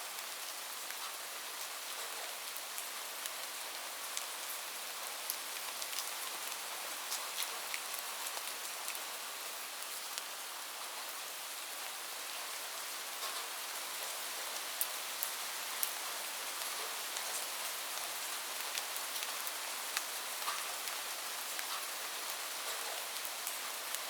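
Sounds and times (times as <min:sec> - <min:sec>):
raindrops ticking on a surface: 0:00.2 - 0:11.6, 0:12.3 - 0:24.0.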